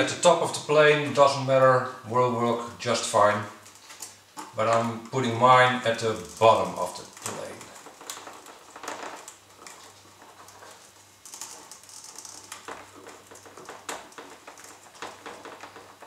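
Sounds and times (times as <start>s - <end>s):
light clicks and scratches: 2.8s - 16.0s.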